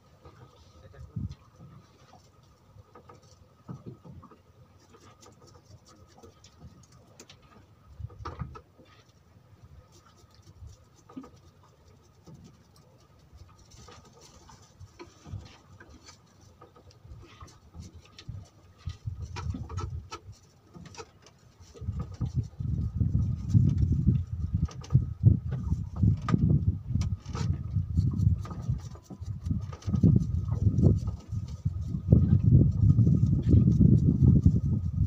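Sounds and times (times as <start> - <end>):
soft low thuds and patter: 0.2 - 35.0.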